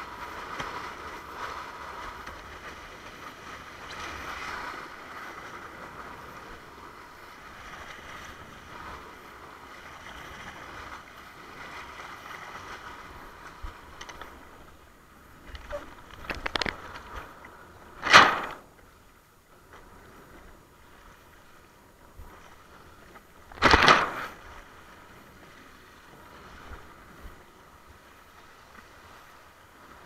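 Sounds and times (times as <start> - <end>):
water rushing past a hull: 0.0 - 30.0.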